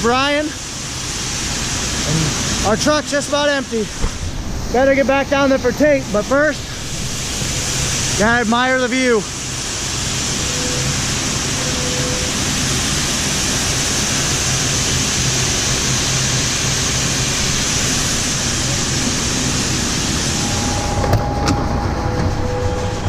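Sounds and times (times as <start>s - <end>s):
road and wind noise: 0.0s - 23.0s
truck engine hum: 0.0s - 23.0s.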